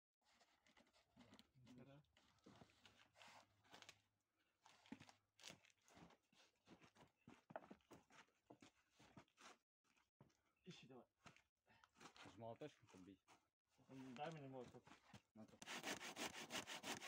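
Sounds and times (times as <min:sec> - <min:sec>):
faint crunching and rustling: 0:00.2 - 0:10.6, 0:11.2 - 0:15.8.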